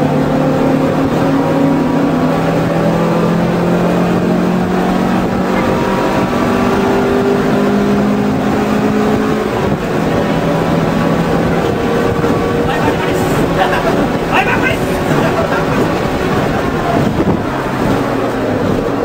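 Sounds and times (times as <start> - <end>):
car engine droning: 0.0 - 19.0
road and wind noise: 0.0 - 19.0.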